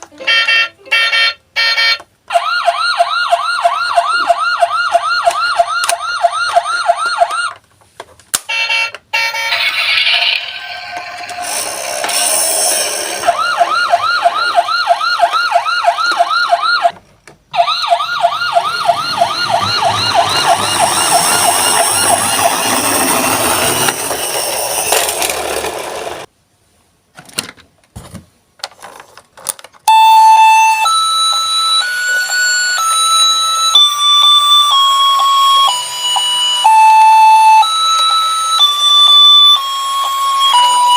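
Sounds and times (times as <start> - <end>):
toy electronic siren warbling: 0.3 - 7.6, 8.5 - 16.9, 17.6 - 25.0, 29.9 - 40.9.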